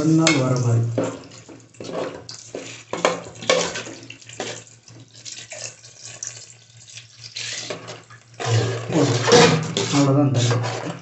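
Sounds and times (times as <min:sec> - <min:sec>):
water pouring into a pot: 0:00.0 - 0:10.0.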